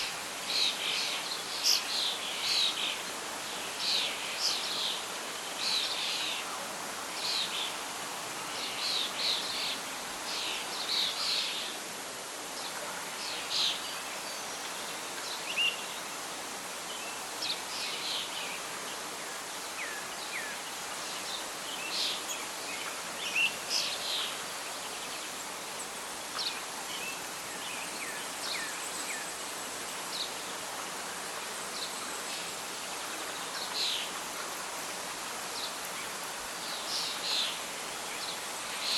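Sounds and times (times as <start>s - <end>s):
songbirds chirping: 0.0s - 38.9s
wind rustling leaves: 0.0s - 38.9s.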